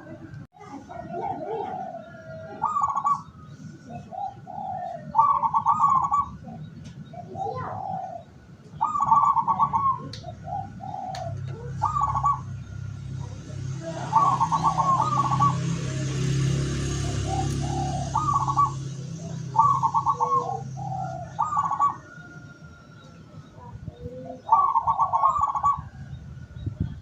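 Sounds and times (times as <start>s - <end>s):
dove cooing: 0.0s - 26.2s.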